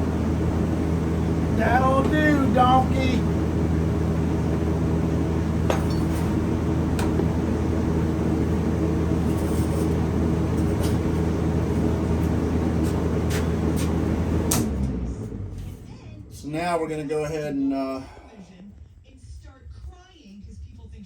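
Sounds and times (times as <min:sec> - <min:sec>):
machine hum: 0:00.0 - 0:18.5.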